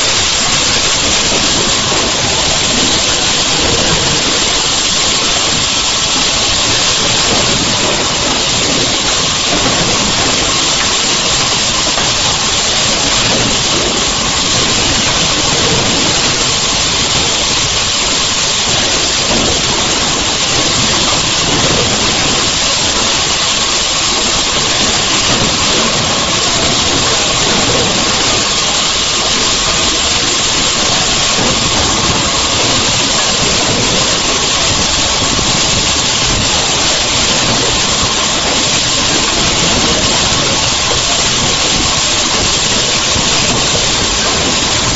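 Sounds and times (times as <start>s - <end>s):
loud steady hiss: 0.0s - 44.9s.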